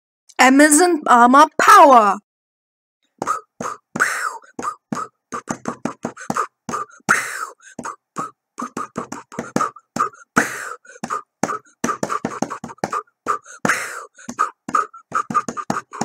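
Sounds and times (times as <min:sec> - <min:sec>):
beatboxing kicks and clicks: 0:03.1 - 0:16.0
beatboxed hissing snare: 0:03.2 - 0:16.0.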